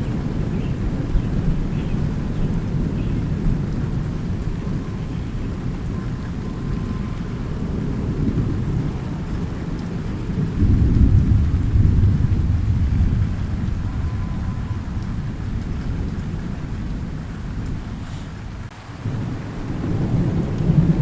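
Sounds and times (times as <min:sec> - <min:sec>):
rain falling: 0:00.0 - 0:21.0
thunder rumbling: 0:00.0 - 0:21.0.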